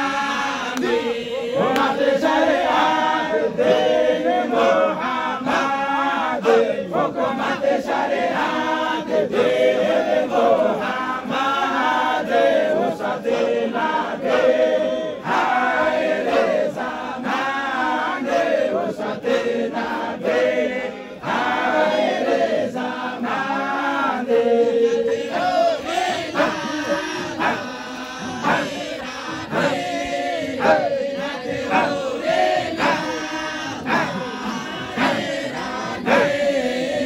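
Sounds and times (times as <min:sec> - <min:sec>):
men chanting in unison: 0:00.0 - 0:37.0.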